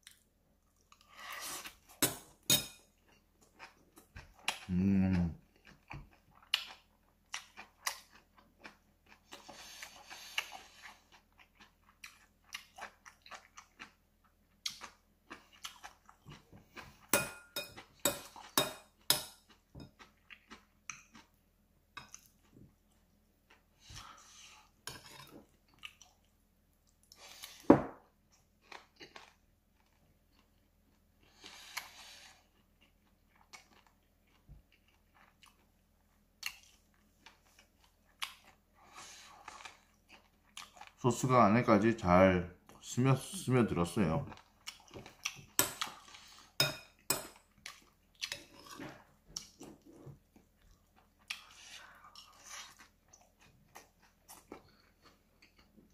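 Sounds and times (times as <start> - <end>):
chewing with small clicks: 0.0 - 1.2, 2.8 - 17.1, 17.8 - 21.4, 22.0 - 23.8, 25.0 - 27.5, 28.3 - 41.0, 44.2 - 55.9.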